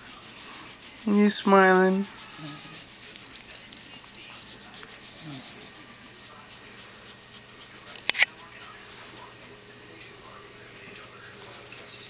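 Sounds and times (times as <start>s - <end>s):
hand rubbing dog fur: 0.0s - 9.7s, 10.8s - 12.0s.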